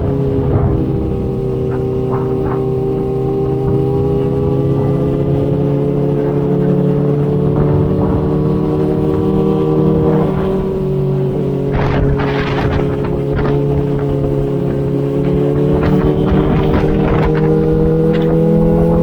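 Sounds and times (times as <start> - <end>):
motorcycle engine running: 0.0 - 19.0
rumbling wind and road noise: 0.0 - 19.0.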